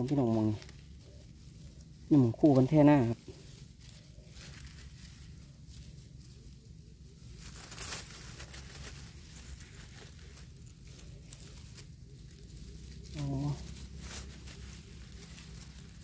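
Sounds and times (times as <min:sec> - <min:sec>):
dry leaves rustling and crackling: 0:00.0 - 0:16.0.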